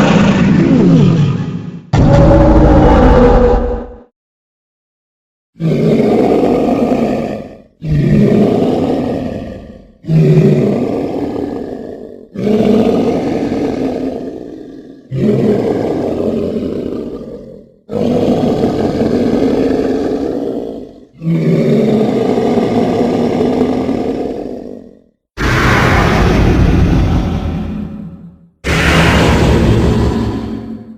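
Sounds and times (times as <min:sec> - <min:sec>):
dinosaur roars: 0:00.0 - 0:04.0, 0:05.6 - 0:30.9.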